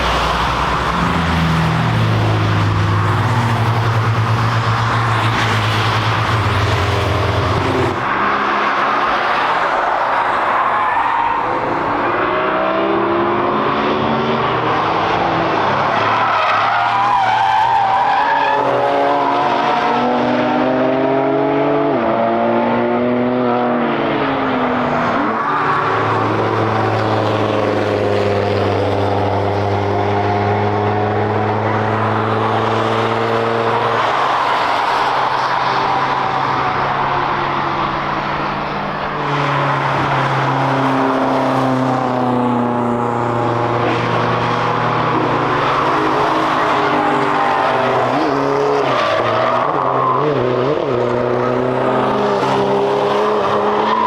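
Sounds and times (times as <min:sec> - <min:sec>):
race cars driving past: 0:00.0 - 0:54.0
tyre and road noise: 0:00.0 - 0:54.0.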